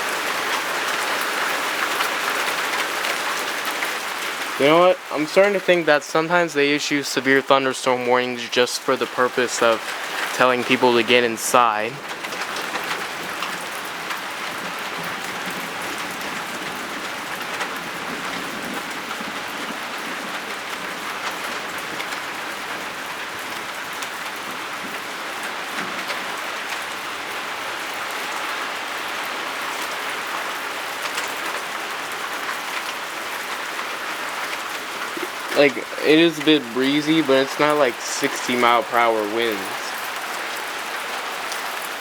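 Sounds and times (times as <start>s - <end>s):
rain pattering on surfaces: 0.0s - 42.0s.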